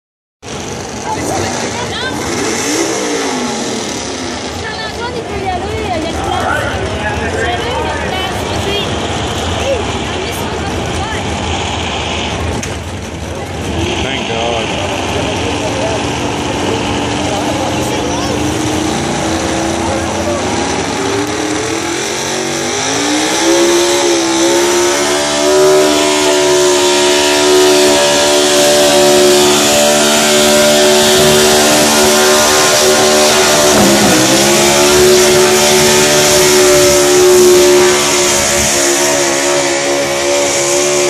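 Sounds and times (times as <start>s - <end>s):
pickup engine revving high: 0.4s - 41.0s.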